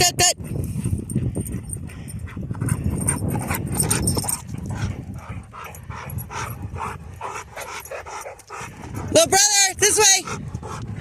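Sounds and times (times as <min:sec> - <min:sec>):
dog panting: 0:00.4 - 0:11.0.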